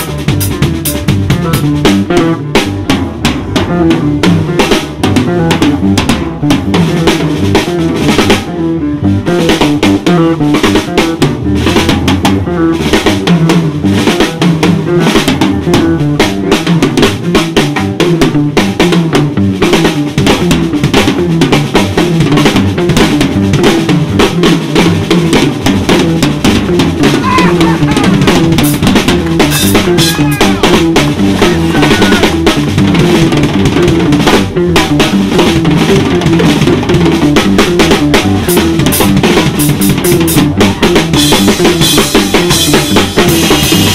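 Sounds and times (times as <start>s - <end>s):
band's low instruments: 0.0s - 43.9s
drum kit playing fast groove: 0.0s - 43.9s.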